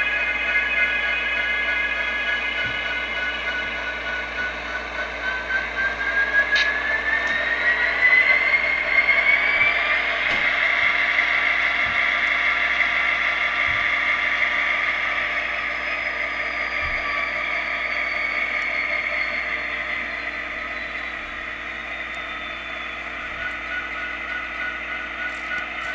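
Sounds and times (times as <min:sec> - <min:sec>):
high whine falling in pitch: 0:00.0 - 0:25.9
simulated diesel engine on small speaker: 0:00.0 - 0:25.9.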